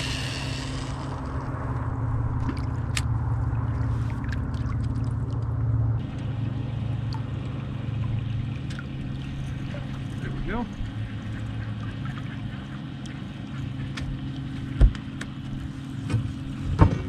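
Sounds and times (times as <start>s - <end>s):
water gurgling and dripping: 0.0s - 14.8s
boat motor humming: 0.0s - 17.0s.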